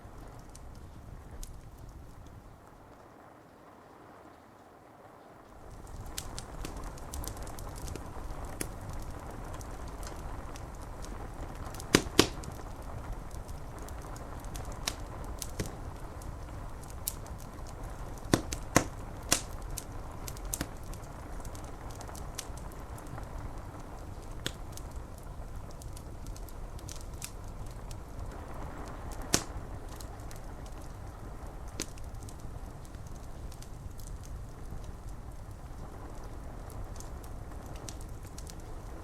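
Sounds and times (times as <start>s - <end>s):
wood fire crackling and popping: 0.0s - 3.2s, 5.4s - 39.0s
rain on window glass: 0.0s - 39.0s.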